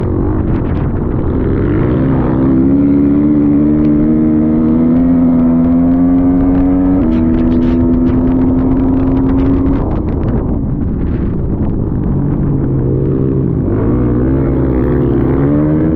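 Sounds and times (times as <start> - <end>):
dirt bike engine revving: 0.0 - 10.3, 12.7 - 15.9.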